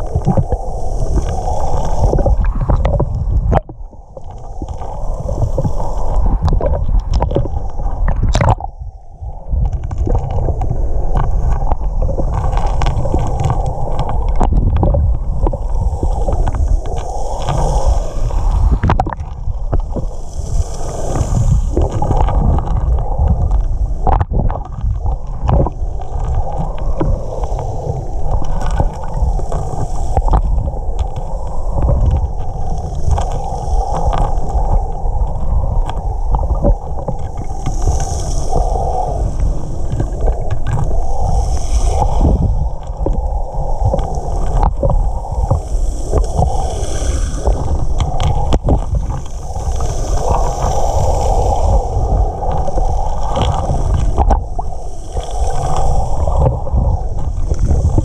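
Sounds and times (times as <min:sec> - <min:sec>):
underwater rumble and sloshing: 0:00.0 - 0:58.0.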